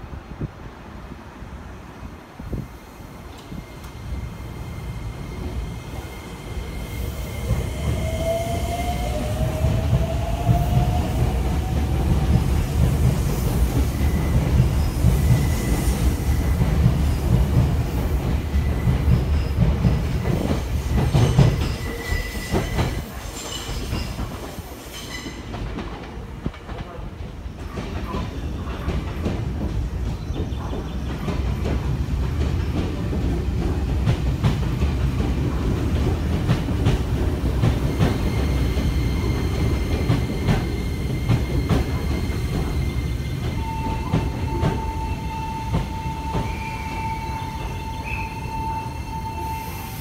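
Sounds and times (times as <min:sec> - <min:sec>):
wheels rumbling on rail: 0:01.5 - 0:50.0.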